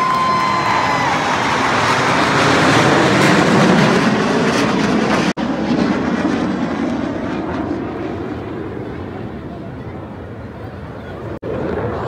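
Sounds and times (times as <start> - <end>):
military jet flying past: 0.0 - 12.0.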